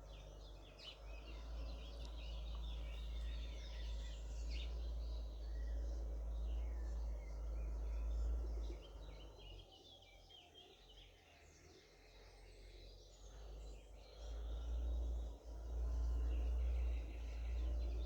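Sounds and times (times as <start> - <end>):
wild birds singing: 0.0 - 18.0.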